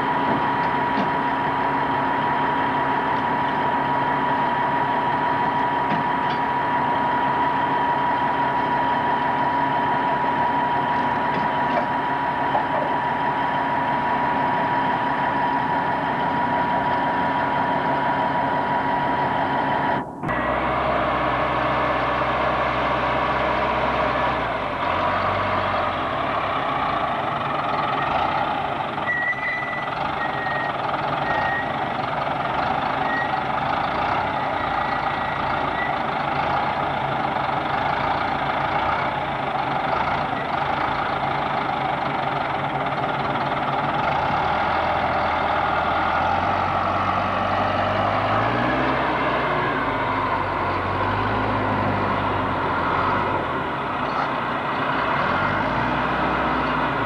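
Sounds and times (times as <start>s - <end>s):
heavy vehicle engines running: 0.0s - 57.0s.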